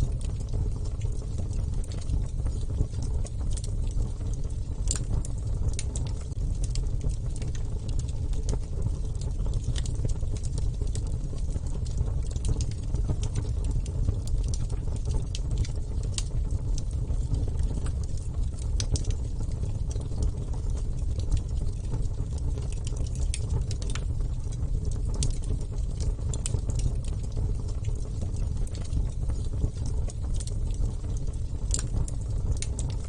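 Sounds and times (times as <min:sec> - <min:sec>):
burning wood crackling and popping: 0:00.0 - 0:33.0
campfire flames rumbling: 0:00.0 - 0:33.0.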